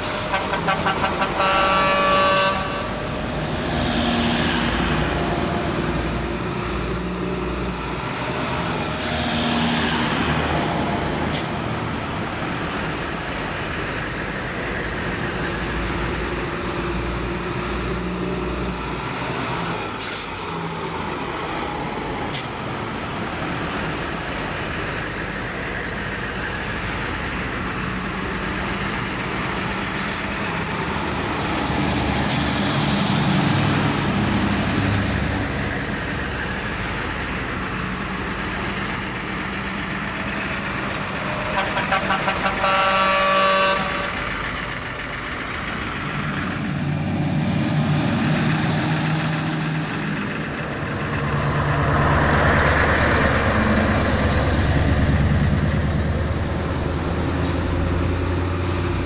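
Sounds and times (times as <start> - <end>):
lorry engines running: 0.0 - 59.0
vehicles passing: 0.0 - 59.0.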